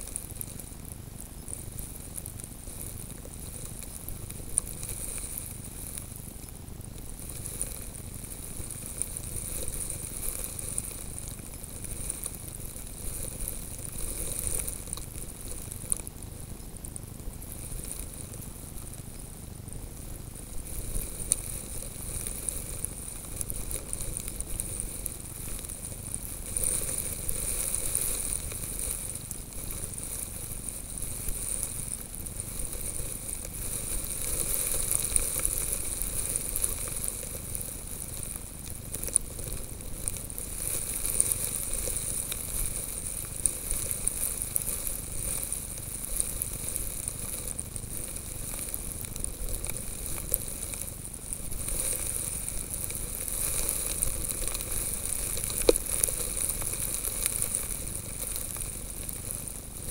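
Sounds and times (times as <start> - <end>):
snow grains ticking on camera: 0.0 - 59.9
wind and blowing snow hiss: 0.0 - 59.9.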